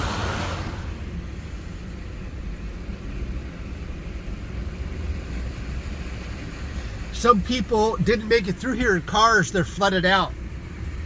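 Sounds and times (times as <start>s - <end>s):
car tyres and engine rumble: 0.0s - 11.0s
water hissing from tyres: 0.0s - 11.0s.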